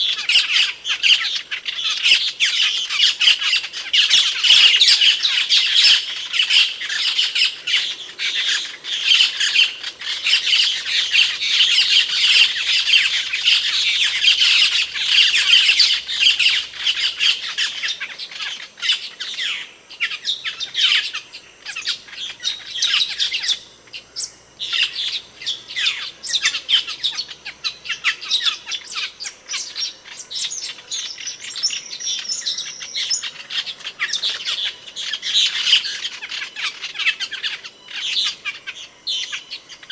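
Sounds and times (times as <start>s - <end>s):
starlings chattering squeaky calls: 0.0s - 39.9s.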